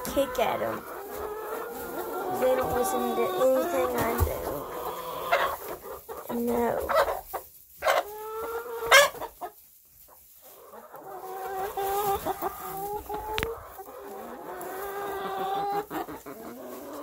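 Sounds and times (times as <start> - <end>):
hens calling: 0.0 - 17.0
chicken squawk: 0.7 - 9.6, 10.4 - 17.0.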